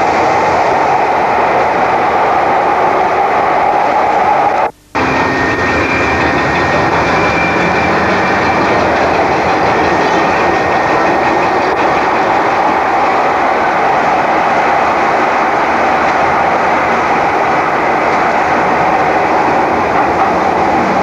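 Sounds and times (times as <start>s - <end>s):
light-rail car running noise: 0.0s - 21.0s.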